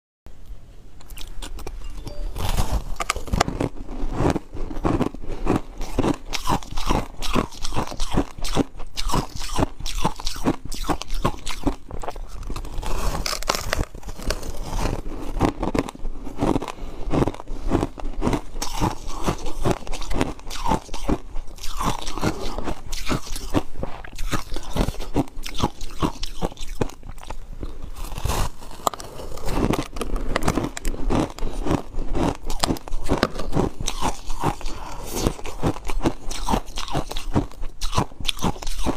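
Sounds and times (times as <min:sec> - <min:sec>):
ice being bitten and chewed: 0:01.0 - 0:38.9.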